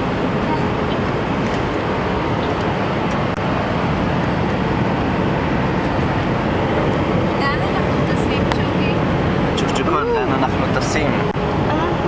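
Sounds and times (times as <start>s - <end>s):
airliner engines droning: 0.0s - 12.0s.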